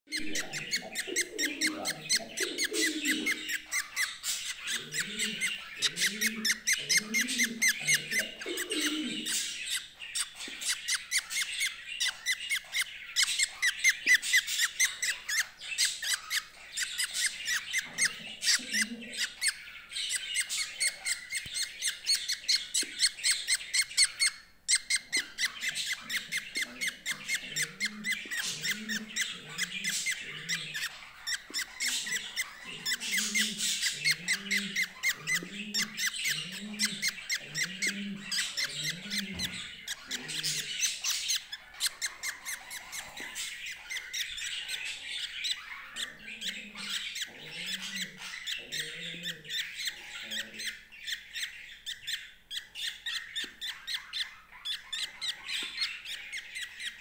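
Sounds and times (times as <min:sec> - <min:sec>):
budgerigar chick cheeping: 0:00.1 - 0:57.0
faint lower bird calls: 0:00.1 - 0:57.0.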